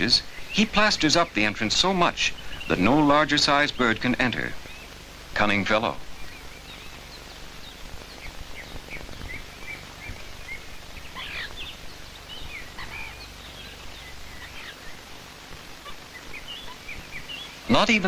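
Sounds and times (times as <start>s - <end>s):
songbirds chirping: 0.0s - 18.0s
steady hiss: 0.0s - 18.0s.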